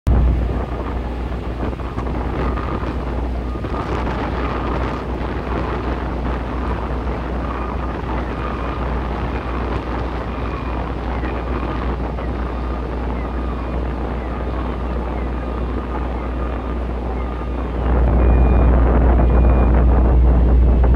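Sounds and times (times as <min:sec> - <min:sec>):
boat engine rumble: 0:00.1 - 0:20.9
wind buffeting microphone: 0:00.1 - 0:20.9.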